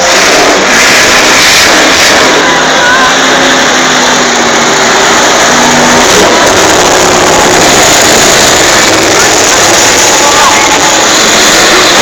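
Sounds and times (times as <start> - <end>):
monster truck engine running: 0.0 - 12.0.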